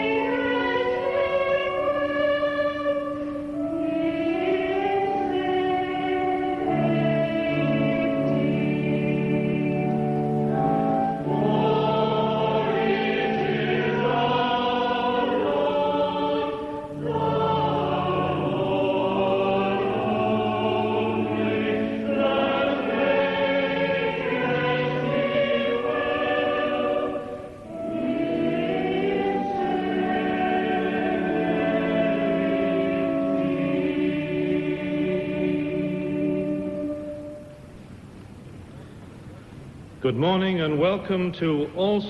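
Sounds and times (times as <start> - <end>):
choir singing in parts: 0.0 - 37.8
organ accompaniment: 0.0 - 37.8.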